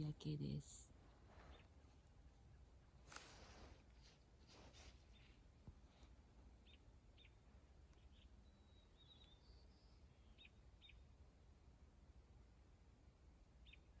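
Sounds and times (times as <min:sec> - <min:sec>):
low ambient hum: 0:00.0 - 0:14.0.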